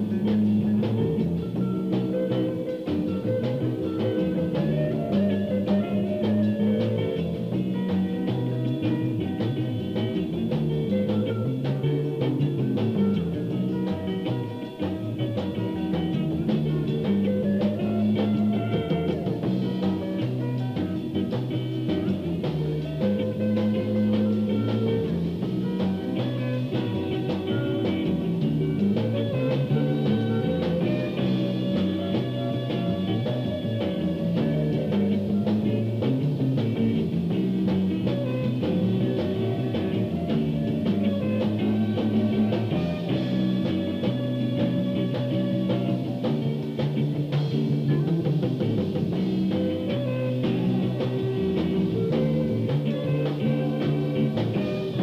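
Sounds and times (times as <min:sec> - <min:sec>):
band playing a groove: 0:00.0 - 0:55.0
bass line: 0:00.0 - 0:55.0.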